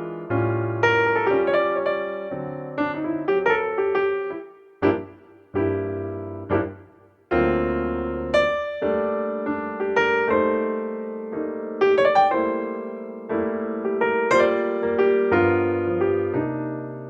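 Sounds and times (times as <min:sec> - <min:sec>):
piano chords and notes: 0:00.0 - 0:17.0.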